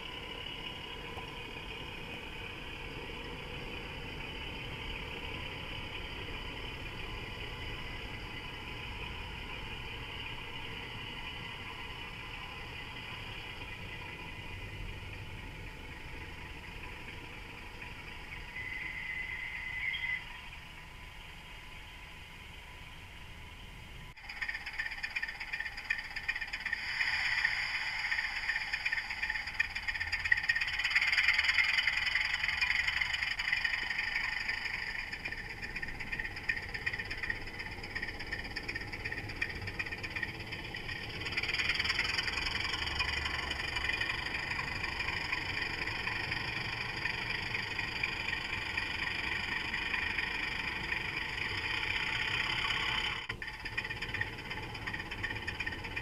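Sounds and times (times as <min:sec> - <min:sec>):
model train motor whirring: 0:00.0 - 0:21.0, 0:24.2 - 0:56.0
wheels rattling on rails: 0:00.0 - 0:56.0.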